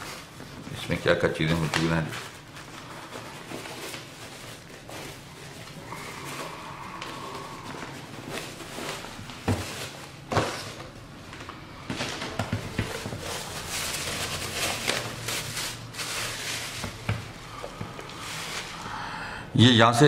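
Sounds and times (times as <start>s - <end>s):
plastic bag crinkling: 0.0s - 18.9s.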